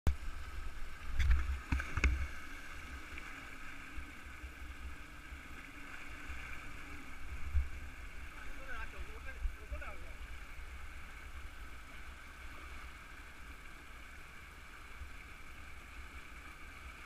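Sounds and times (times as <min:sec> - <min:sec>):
rushing rapids: 0:00.2 - 0:17.0.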